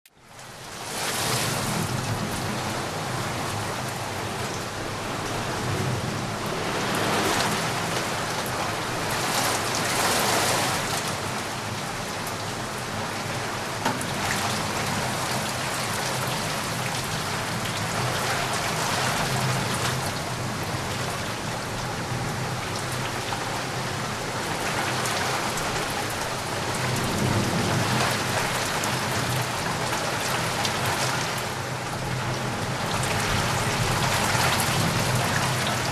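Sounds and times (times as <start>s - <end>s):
heavy rain falling: 0.2s - 35.9s.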